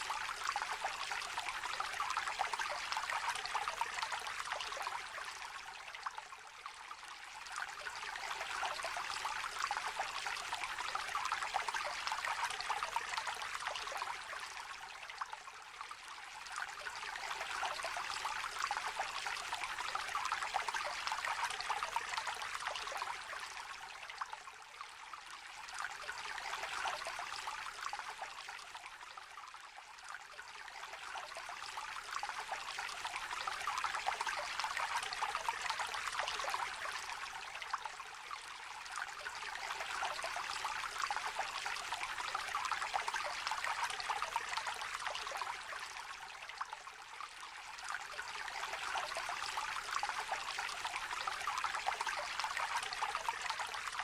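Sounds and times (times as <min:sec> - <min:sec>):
river trickling and babbling: 0:00.0 - 0:54.0.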